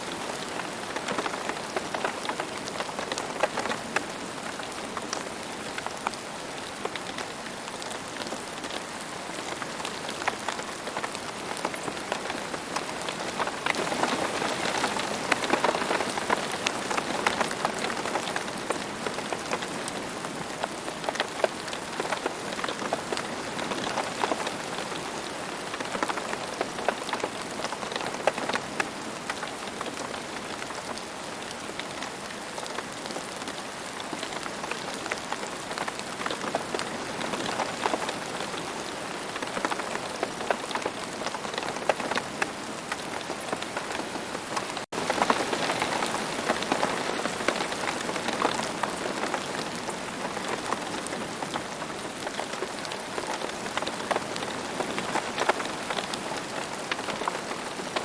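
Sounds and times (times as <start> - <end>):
rain falling on ground: 0.0 - 58.0.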